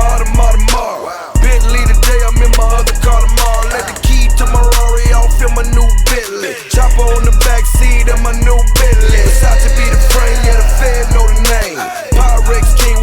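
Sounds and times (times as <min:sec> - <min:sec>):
hip hop beat with heavy bass: 0:00.0 - 0:13.0.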